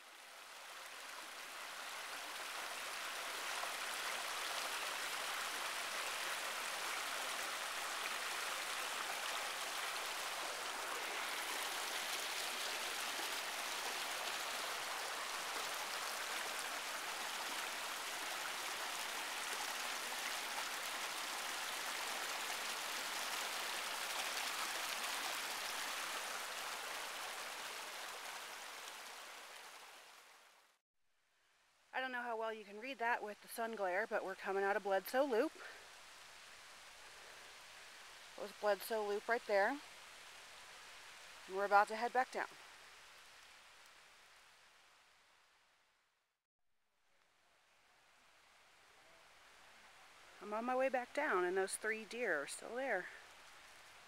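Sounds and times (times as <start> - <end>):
creek water rushing: 0.0 - 30.8, 33.6 - 45.3, 47.7 - 54.0.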